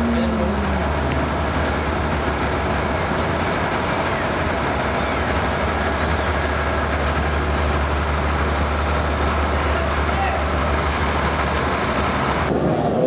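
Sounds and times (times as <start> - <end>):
vehicle rumble in motion: 0.0 - 13.0.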